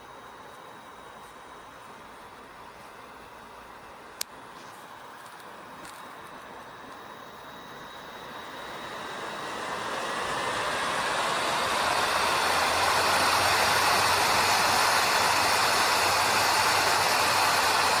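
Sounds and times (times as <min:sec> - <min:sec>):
steady rushing hiss: 0:00.0 - 0:18.0.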